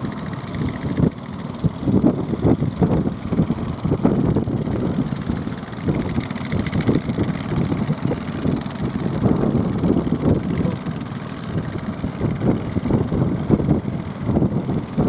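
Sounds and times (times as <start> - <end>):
boat engines running: 0.0 - 15.0
wind buffeting microphone: 0.0 - 15.0.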